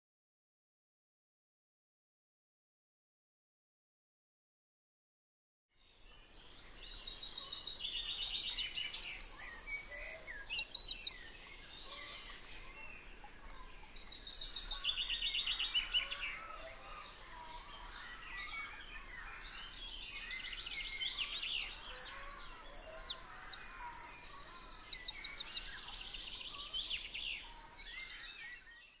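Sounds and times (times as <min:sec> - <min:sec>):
songbirds trilling and chirping: 0:05.8 - 0:29.0.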